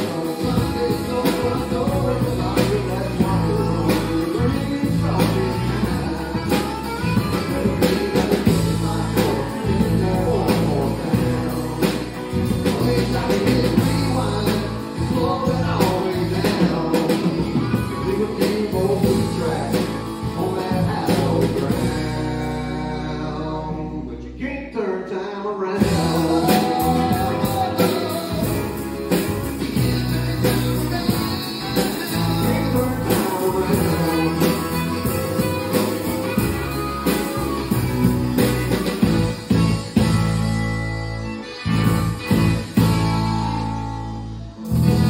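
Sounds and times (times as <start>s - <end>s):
acoustic guitar strumming: 0.0s - 23.3s, 25.8s - 45.0s
drums: 0.0s - 24.0s, 25.8s - 45.0s
harmonica: 0.0s - 24.1s, 25.8s - 45.0s
electric guitar: 0.0s - 24.5s, 25.1s - 45.0s
bass guitar: 0.0s - 45.0s.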